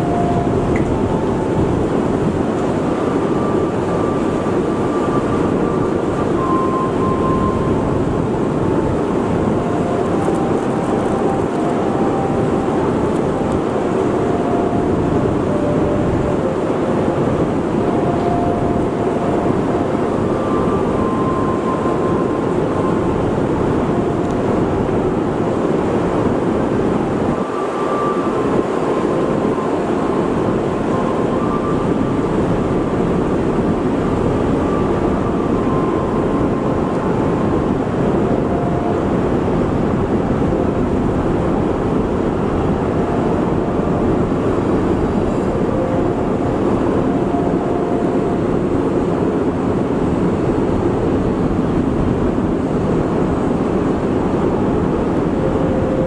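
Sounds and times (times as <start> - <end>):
ship engines rumbling: 0.0 - 56.0.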